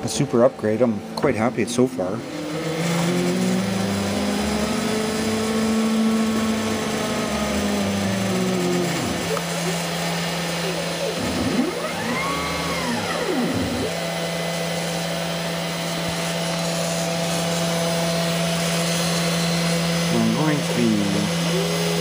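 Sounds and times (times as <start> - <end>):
router spindle humming: 0.0 - 22.0
stepper motors whining: 0.0 - 22.0.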